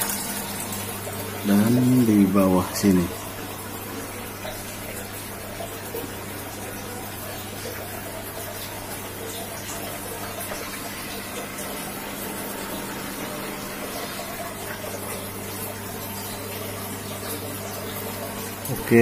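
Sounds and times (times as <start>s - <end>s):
water pump humming: 0.0s - 19.0s
water rushing and splashing: 0.0s - 19.0s.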